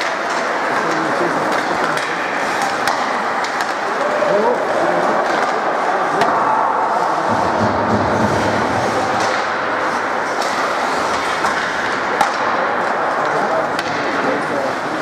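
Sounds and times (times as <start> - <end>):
sticks clacking on puck: 0.0 - 6.5, 8.3 - 14.3
arena noise: 0.0 - 15.0
skates scraping ice: 0.0 - 15.0.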